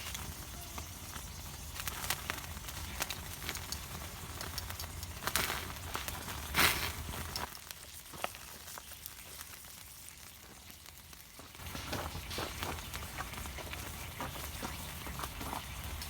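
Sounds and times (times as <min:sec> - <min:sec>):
crackles: 0:00.0 - 0:16.0
steak sizzling on griddle: 0:00.0 - 0:16.0.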